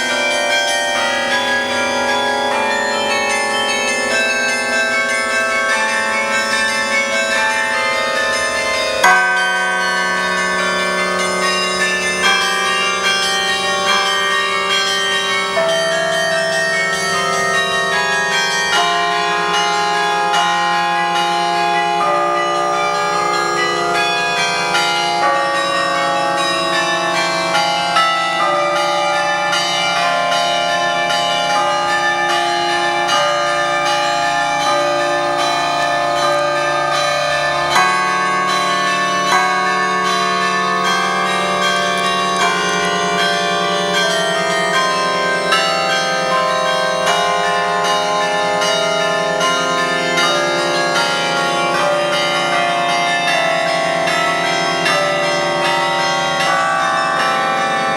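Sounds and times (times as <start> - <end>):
carillon bells playing a tune: 0.0 - 57.9.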